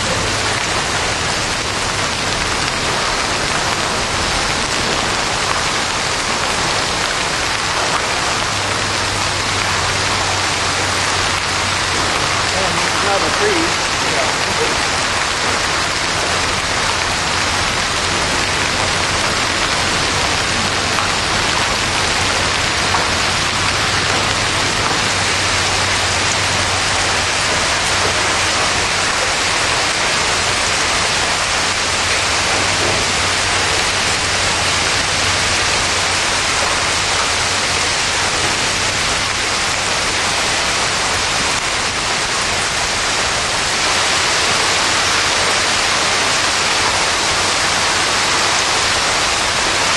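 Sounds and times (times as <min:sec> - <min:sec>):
heavy rain and hail pelting: 0:00.0 - 0:49.9.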